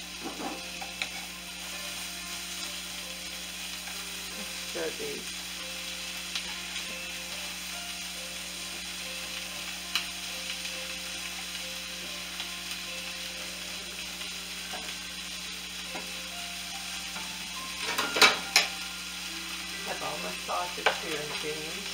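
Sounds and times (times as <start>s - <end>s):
vegetables sizzling in a pan: 0.0s - 21.9s.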